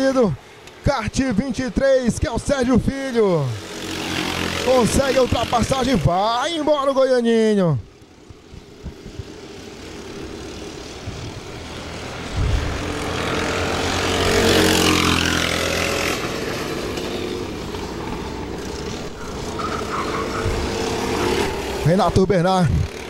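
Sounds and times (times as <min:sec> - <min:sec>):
kart engines passing: 0:00.0 - 0:23.0.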